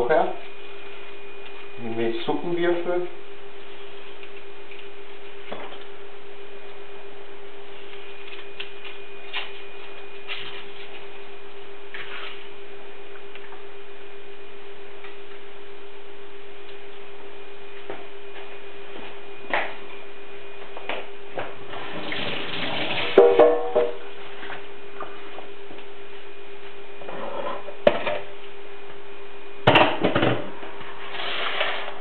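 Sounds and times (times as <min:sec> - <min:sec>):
electrical hum: 0:00.0 - 0:32.0
faint high whine: 0:00.0 - 0:32.0.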